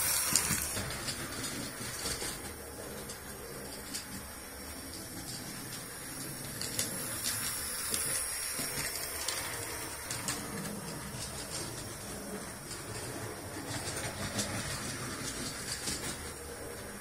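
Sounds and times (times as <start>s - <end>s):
model train motor and wheel rumble: 0.0s - 17.0s
wheels clicking over rail joints: 0.0s - 17.0s.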